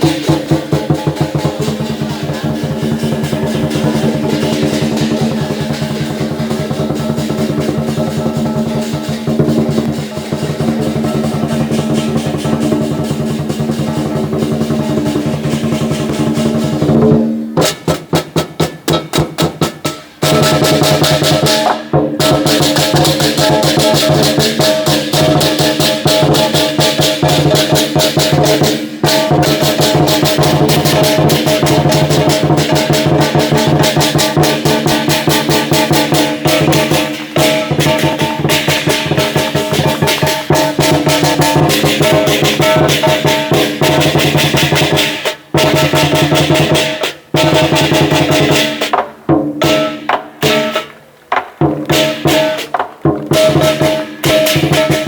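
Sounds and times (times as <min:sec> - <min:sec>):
drum cymbal and gong band: 0:00.0 - 0:55.0.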